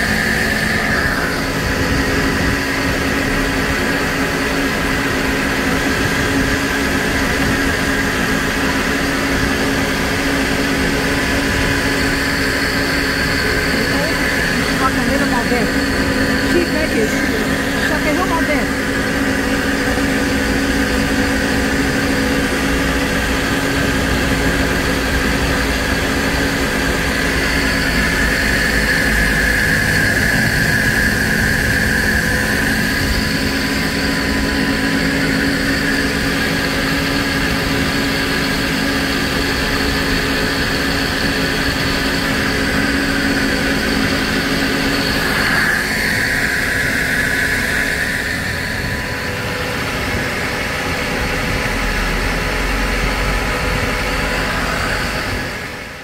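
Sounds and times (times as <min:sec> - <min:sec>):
mechanical drone: 0:00.0 - 0:56.0.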